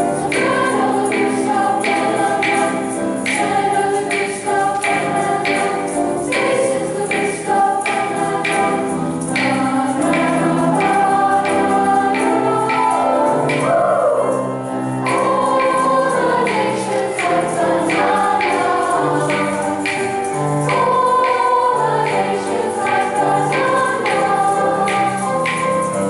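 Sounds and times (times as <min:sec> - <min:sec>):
accompaniment beat: 0:00.0 - 0:26.0
choir singing sustained notes: 0:00.0 - 0:26.0.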